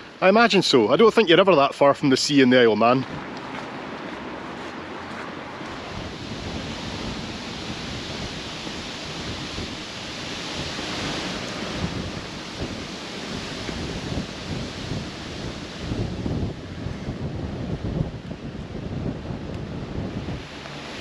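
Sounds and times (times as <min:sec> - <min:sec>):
wind buffeting microphone: 0:03.0 - 0:21.0.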